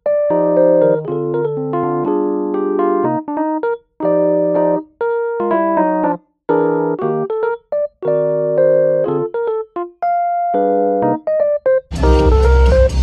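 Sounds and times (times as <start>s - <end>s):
electric piano music: 0.0s - 13.0s.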